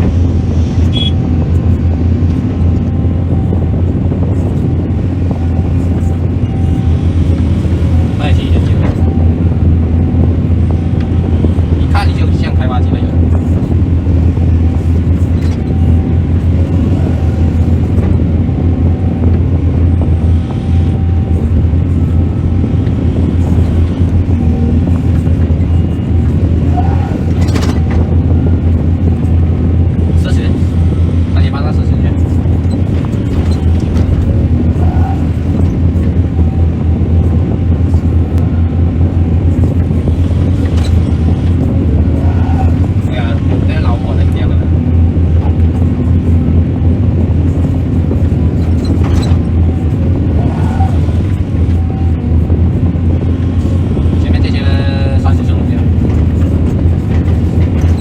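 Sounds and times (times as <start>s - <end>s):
excavator diesel engine drone: 0.0s - 58.0s.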